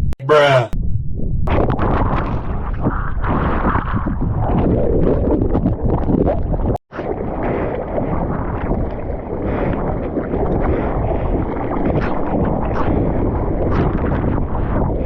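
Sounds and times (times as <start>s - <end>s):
wind buffeting microphone: 1.5s - 15.0s.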